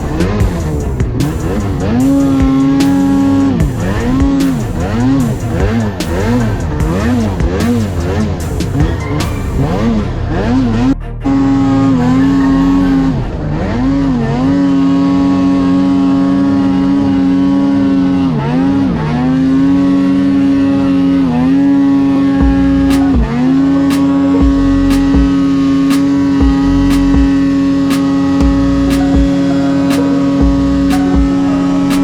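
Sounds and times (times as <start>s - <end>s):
snowmobile engine revving: 0.0s - 32.0s.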